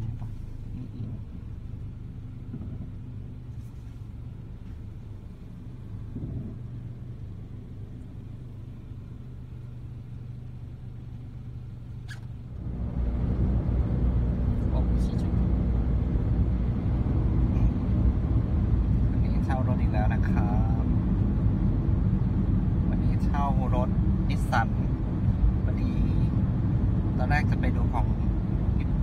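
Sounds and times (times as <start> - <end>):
car engine idling: 0.0 - 29.0
low rumble of car driving: 0.0 - 29.0.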